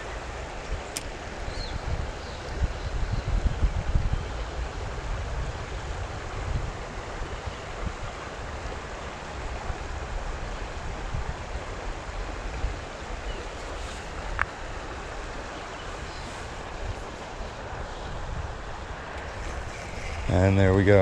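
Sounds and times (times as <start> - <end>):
flowing creek water: 0.0 - 21.0
wind buffeting microphone: 0.0 - 21.0.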